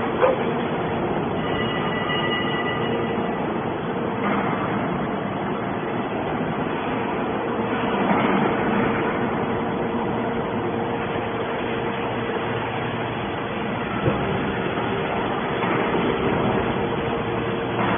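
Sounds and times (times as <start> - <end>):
hydraulic scrap shear running: 0.0 - 17.9.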